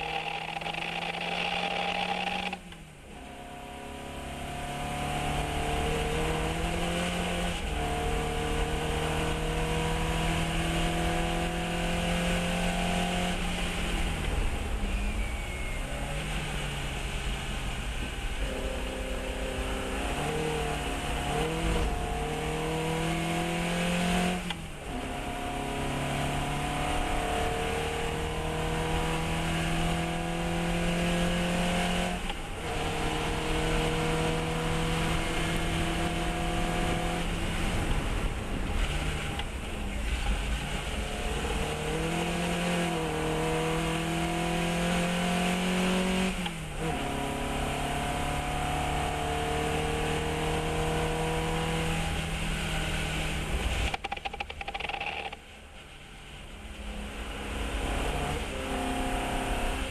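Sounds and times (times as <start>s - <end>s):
race car engine accelerating: 0.0s - 54.2s.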